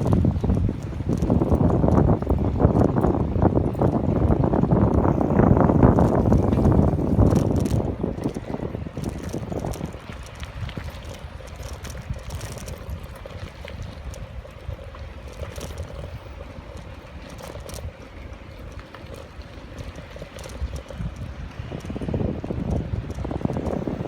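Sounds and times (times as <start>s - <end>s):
bicycle rattling clicks: 0.0s - 24.0s
wind rumbling on microphone: 0.0s - 24.0s.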